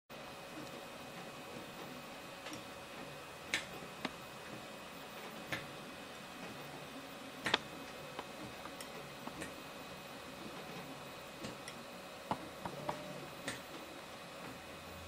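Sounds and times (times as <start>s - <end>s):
printer humming: 0.1s - 15.0s.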